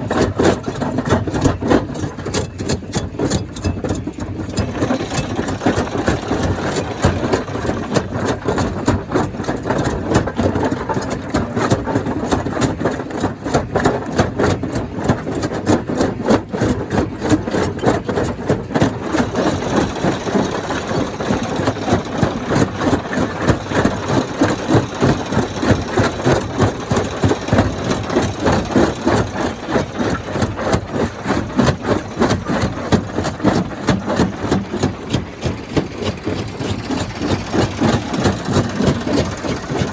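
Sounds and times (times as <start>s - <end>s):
rock crushing clatter: 0.0s - 39.9s.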